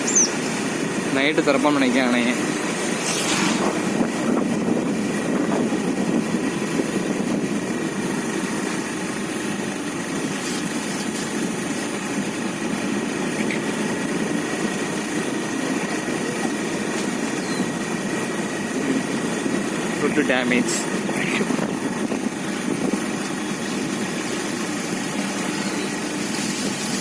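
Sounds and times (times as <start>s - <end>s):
flooded river rushing: 0.0s - 27.0s.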